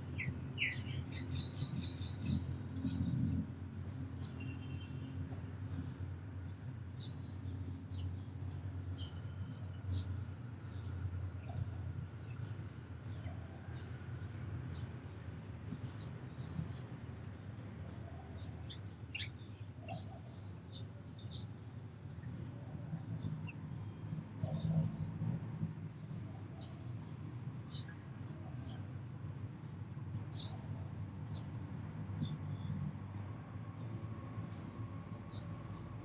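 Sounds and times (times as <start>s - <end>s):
sparrows chirping: 0.0s - 36.0s.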